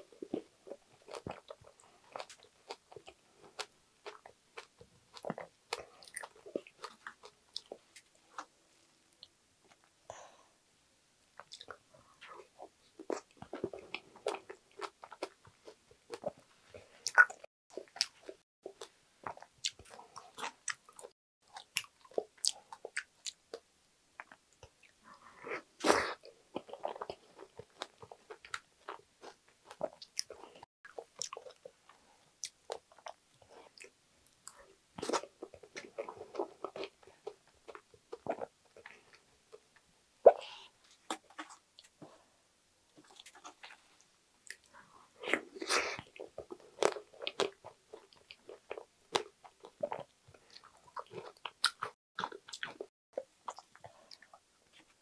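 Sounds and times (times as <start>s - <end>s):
chewing soft food: 0.0s - 8.5s, 11.4s - 25.6s, 26.2s - 39.8s, 43.0s - 55.0s.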